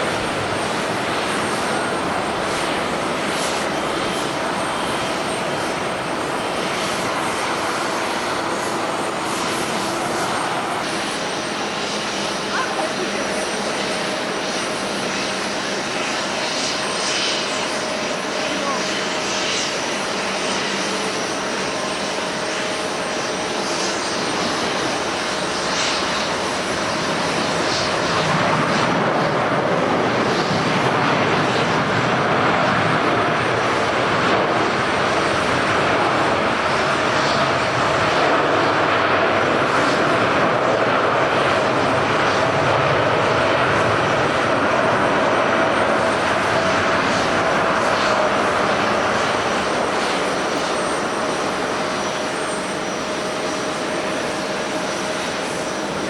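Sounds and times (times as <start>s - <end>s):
jet engines rushing and whining: 0.0s - 56.0s.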